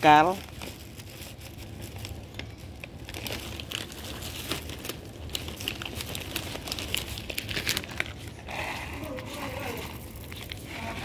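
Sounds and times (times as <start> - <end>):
cats crunching dry kibble: 0.0 - 11.0.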